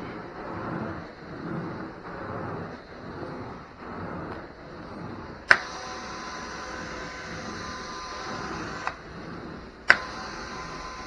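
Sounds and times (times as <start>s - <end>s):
extractor suction: 0.0s - 11.0s.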